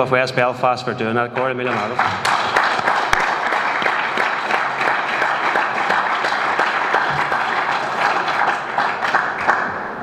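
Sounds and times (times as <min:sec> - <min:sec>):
crowd applauding: 0:01.4 - 0:10.0.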